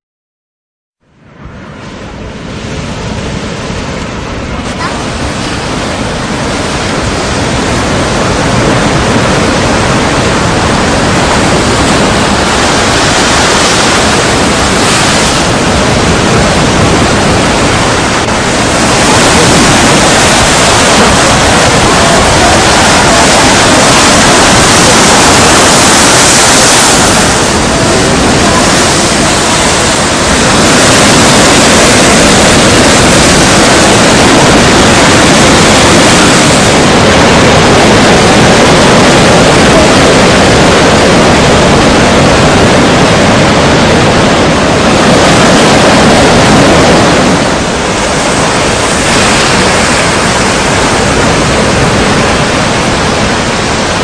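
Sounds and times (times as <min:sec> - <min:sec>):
strong wind blowing: 0:01.1 - 0:54.0
surf: 0:01.2 - 0:54.0.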